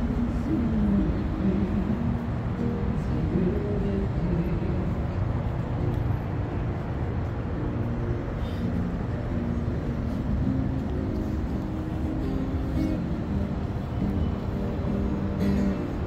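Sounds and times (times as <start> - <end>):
low rumble of passing cars: 0.0 - 16.0.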